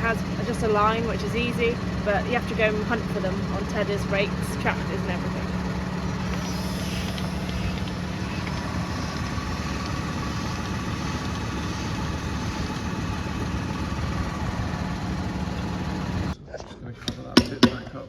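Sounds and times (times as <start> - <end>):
engine idling: 0.0 - 16.4.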